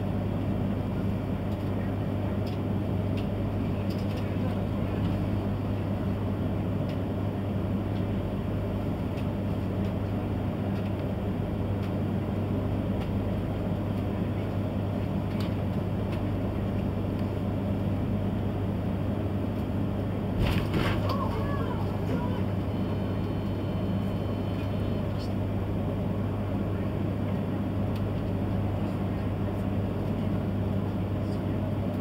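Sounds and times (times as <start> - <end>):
low electrical hum in train car: 0.0 - 32.0.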